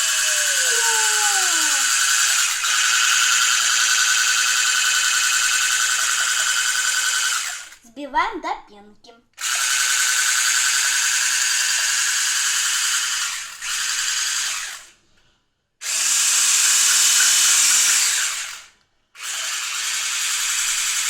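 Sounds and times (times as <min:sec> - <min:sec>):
electric hand mixer whisking: 0:00.0 - 0:07.8, 0:09.4 - 0:14.9, 0:15.8 - 0:21.0.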